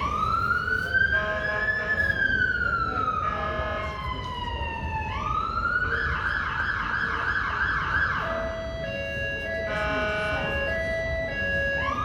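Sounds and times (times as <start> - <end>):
emergency vehicle siren: 0.0 - 12.0.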